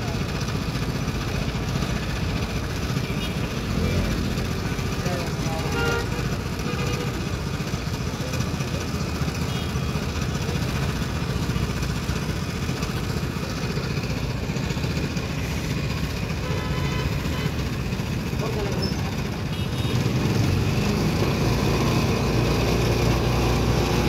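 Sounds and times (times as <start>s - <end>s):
juice crusher engine running: 0.0s - 24.0s.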